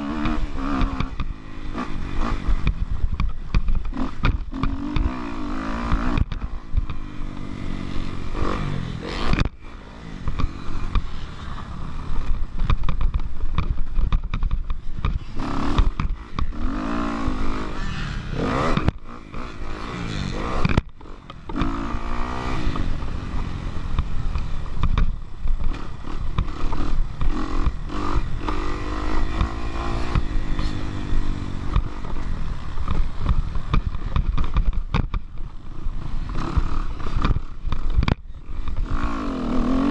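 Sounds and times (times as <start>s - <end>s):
motocross bike engine revving: 0.0s - 39.9s
wind: 0.0s - 39.9s.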